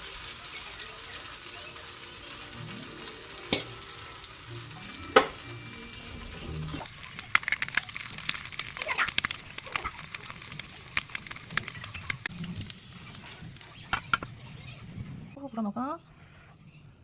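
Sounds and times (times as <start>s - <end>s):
food frying in a pan: 0.0s - 15.4s.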